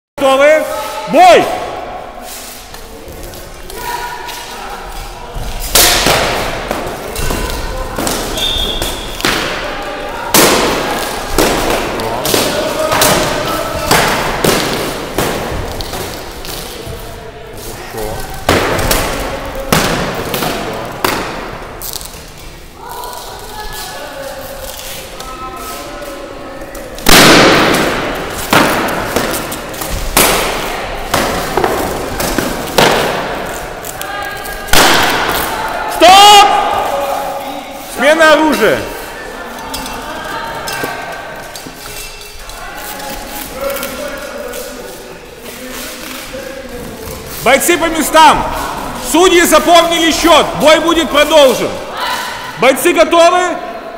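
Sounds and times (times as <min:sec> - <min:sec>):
fencing blades clashing: 0:01.6 - 0:52.2.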